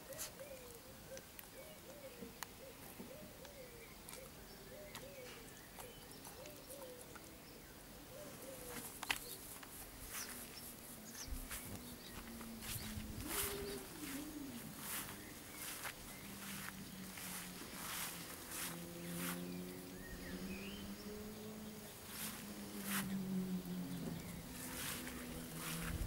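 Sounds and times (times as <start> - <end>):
bird calling: 0.0 - 26.0.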